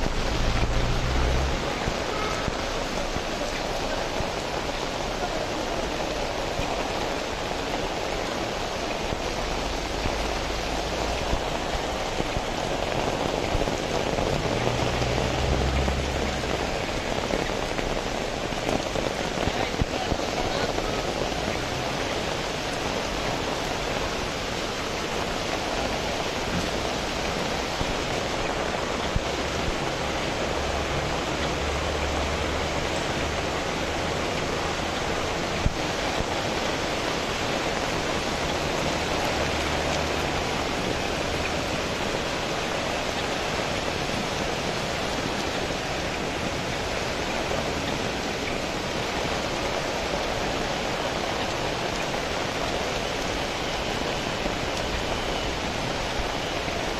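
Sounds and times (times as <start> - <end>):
rain falling on wet street: 0.0 - 56.9.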